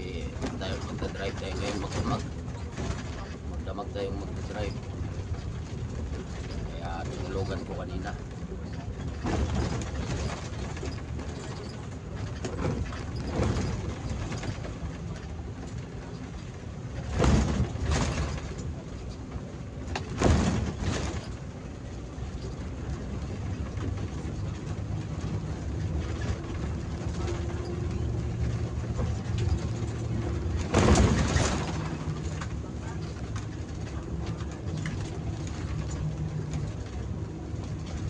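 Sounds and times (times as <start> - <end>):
bus engine and road drone: 0.0 - 38.0.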